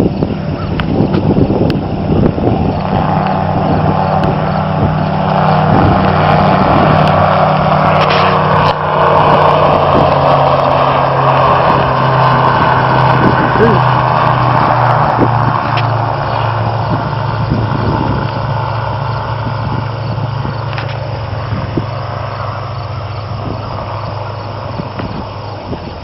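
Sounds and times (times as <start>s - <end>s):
small aircraft engine drone: 0.0s - 26.0s.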